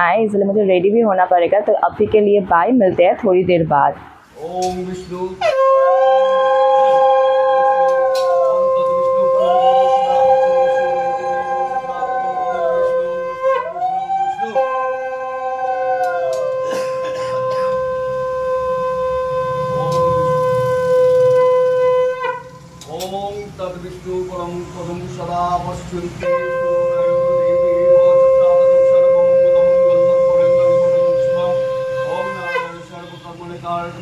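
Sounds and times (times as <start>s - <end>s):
conch shell steady tone: 4.4s - 34.0s
higher conch shell notes: 4.4s - 34.0s.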